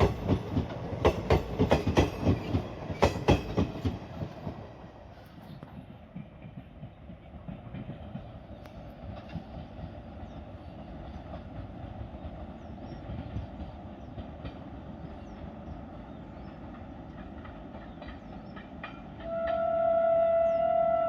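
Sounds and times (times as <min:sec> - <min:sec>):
train coaches rumbling on track: 0:00.0 - 0:21.0.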